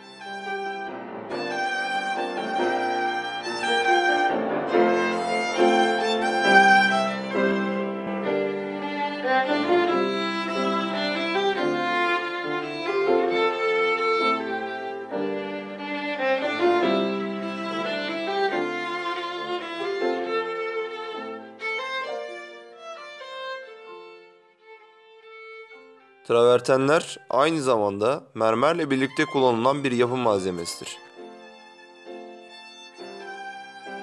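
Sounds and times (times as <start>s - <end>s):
instrumental background music: 0.0s - 34.0s.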